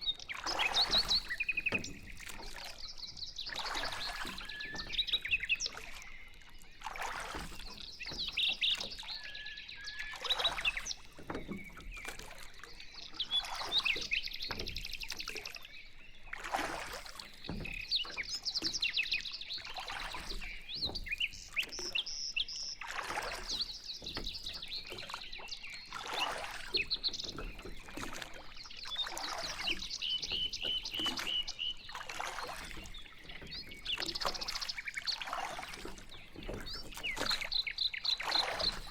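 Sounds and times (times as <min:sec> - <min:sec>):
paddles churning water: 0:00.0 - 0:38.9
small birds chirping: 0:00.0 - 0:38.9.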